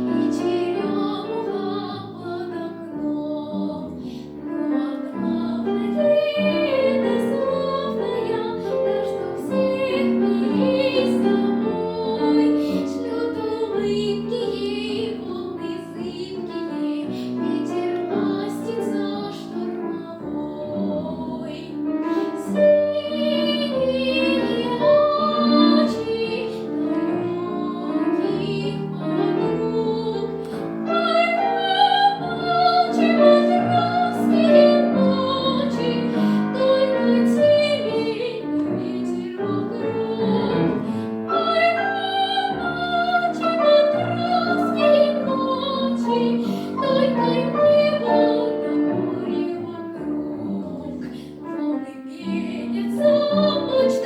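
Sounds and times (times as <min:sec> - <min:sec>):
piano: 0:00.0 - 0:54.0
girl singing classically: 0:04.6 - 0:51.0.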